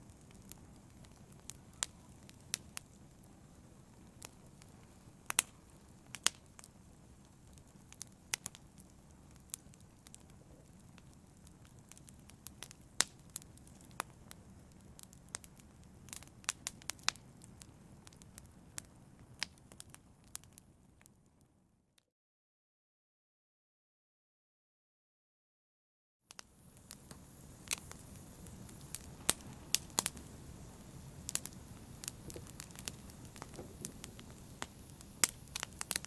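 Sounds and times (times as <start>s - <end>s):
fire low rumble: 0.0s - 21.0s, 26.4s - 36.0s
wood fire crackles and pops: 0.0s - 21.4s, 26.3s - 36.0s.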